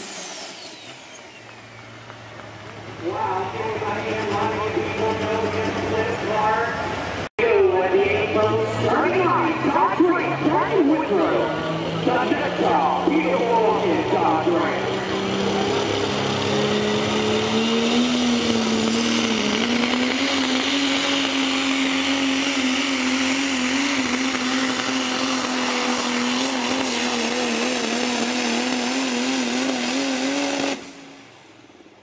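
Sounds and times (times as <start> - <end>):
diesel truck engine at full power: 0.0 - 32.0.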